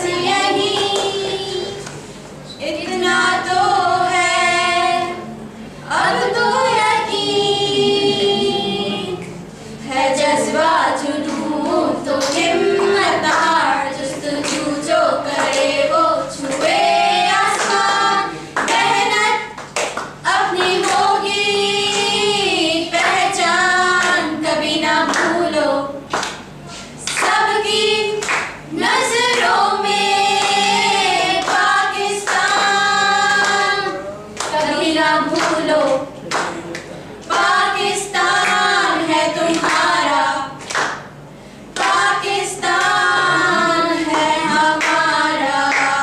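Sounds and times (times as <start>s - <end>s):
young women singing together: 0.0s - 46.0s.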